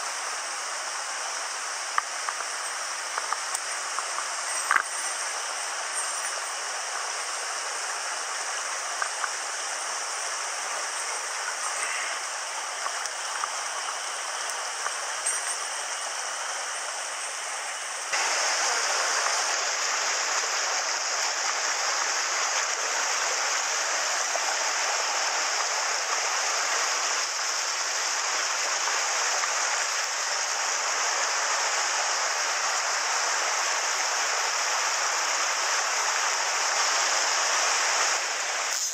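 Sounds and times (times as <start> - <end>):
stream rushing over stones: 0.0 - 38.9
white water cascade: 0.0 - 38.9.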